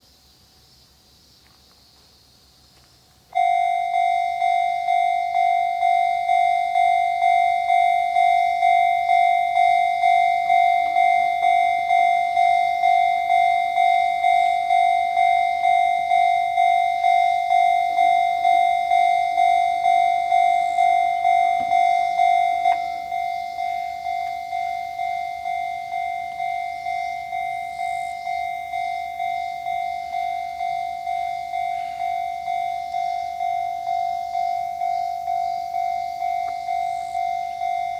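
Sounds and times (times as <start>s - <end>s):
level crossing warning bell dinging: 3.3s - 37.9s.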